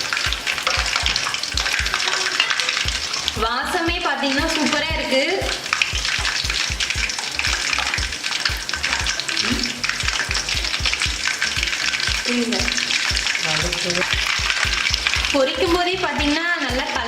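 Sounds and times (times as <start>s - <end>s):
food deep-frying sizzle: 0.0s - 17.0s
low regular thudding beat: 0.0s - 17.0s.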